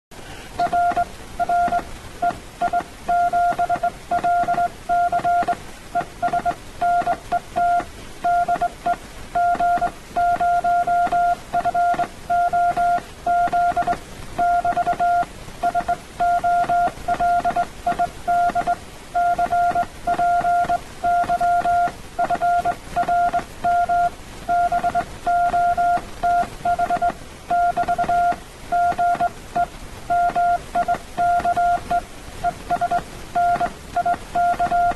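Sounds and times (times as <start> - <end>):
morse code tone: 0.6 - 34.9.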